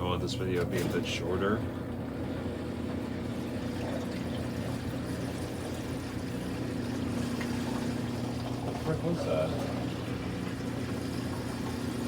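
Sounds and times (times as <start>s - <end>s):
laundry machine motor hum: 0.0s - 12.0s.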